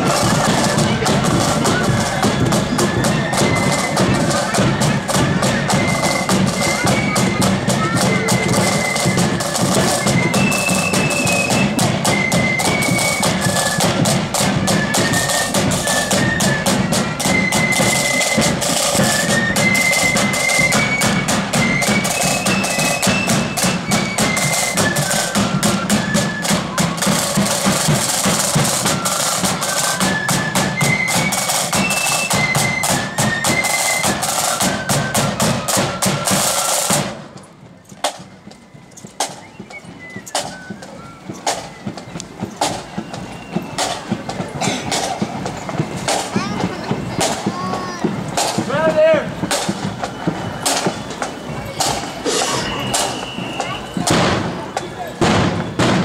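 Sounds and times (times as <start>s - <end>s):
flute melody: 0.0s - 56.0s
snare drum rolls: 0.0s - 56.0s.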